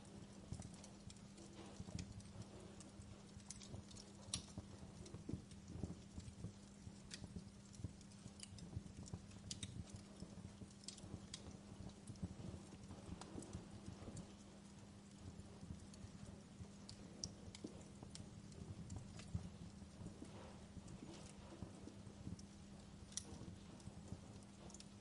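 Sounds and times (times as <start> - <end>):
faint steady hum: 0.0 - 25.0
fireplace crackling: 0.0 - 25.0.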